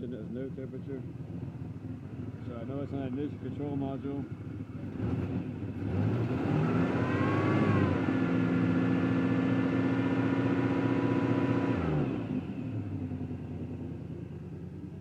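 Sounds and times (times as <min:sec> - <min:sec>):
car engine revving: 0:01.2 - 0:13.9.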